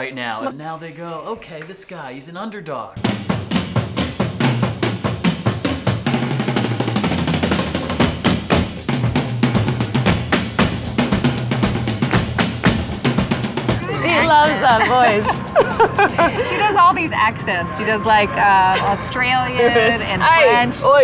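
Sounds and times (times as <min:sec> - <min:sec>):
bass line: 0:03.0 - 0:21.0
drum kit beat: 0:03.0 - 0:21.0.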